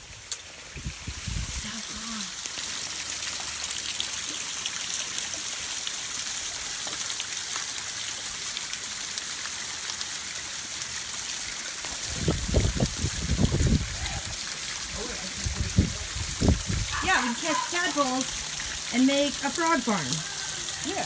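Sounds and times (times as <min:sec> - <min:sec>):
waterfall splashing: 0:01.6 - 0:21.0.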